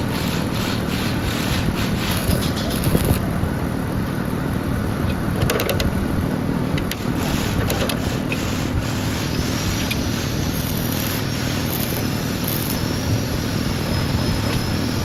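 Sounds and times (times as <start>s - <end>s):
grass chopper machine running: 0.0s - 15.0s.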